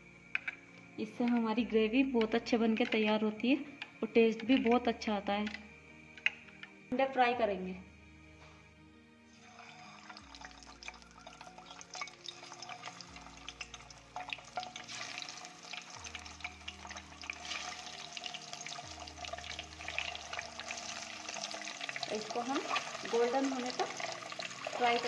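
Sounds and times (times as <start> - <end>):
eggs sizzling in hot oil: 0.0 - 6.9, 9.2 - 25.0
soft background music: 0.0 - 25.0.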